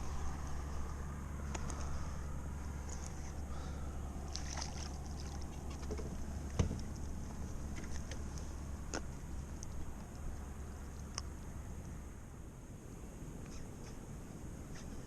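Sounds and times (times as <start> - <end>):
low rumble: 0.0 - 13.2.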